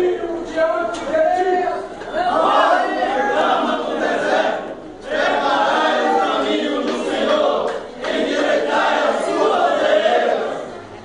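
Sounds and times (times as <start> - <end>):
men's choir singing a hymn: 0.0 - 10.7.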